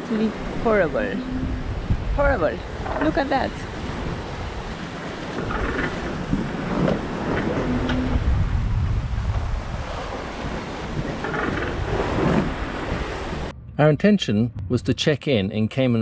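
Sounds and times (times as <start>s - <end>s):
waves splashing: 0.0s - 14.4s
wind buffeting microphone: 0.2s - 15.3s.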